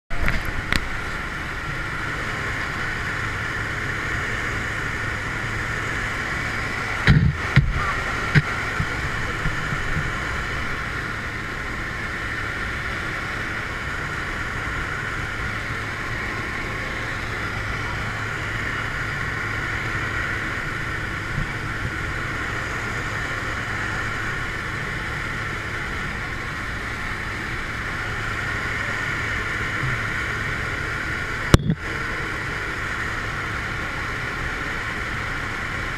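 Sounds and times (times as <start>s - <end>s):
plane engine and propeller drone: 0.1s - 35.9s.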